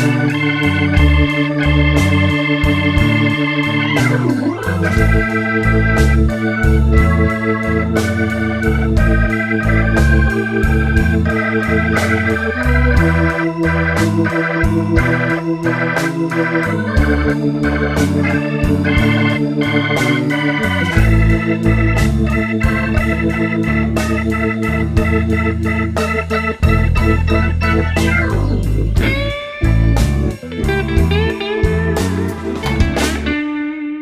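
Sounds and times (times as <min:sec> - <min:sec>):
organ-led instrumental music: 0:00.0 - 0:34.0.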